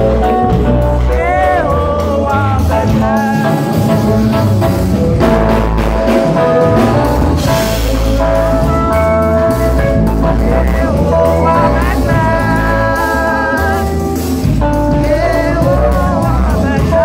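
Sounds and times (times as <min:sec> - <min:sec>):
man singing into a microphone: 0:00.0 - 0:04.6, 0:07.4 - 0:17.0
gospel band playing: 0:00.0 - 0:17.0.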